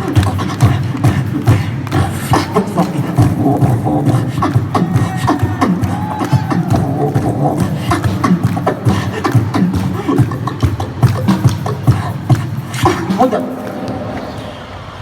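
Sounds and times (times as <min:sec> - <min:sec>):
beatboxing into a microphone: 0:00.0 - 0:14.7.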